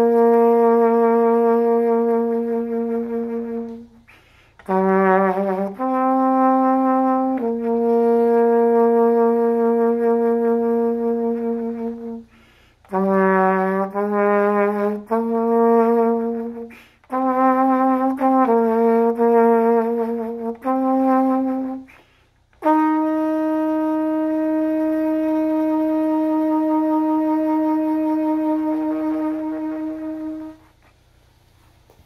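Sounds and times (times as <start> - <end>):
solo trumpet melody: 0.0 - 30.9.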